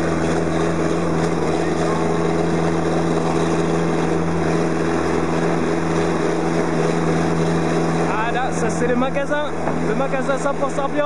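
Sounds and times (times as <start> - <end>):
harvester engine droning: 0.0 - 11.0.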